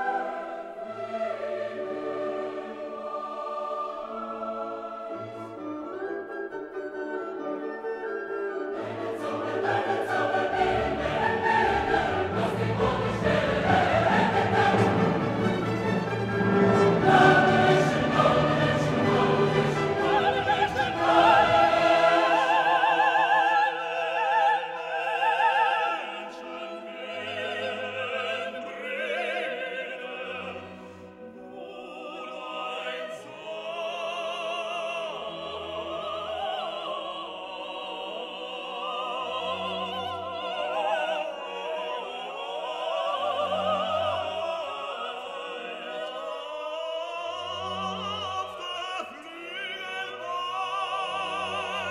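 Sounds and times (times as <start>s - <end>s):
operatic singing with vibrato: 0.0s - 6.8s, 8.7s - 51.9s
orchestral accompaniment: 0.0s - 51.9s.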